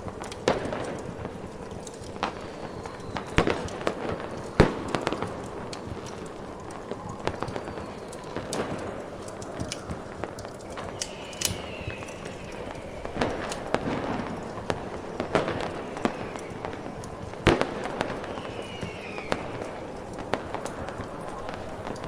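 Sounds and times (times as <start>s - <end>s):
fireworks popping and crackling: 0.0s - 22.0s
falling whistles: 2.1s - 20.0s.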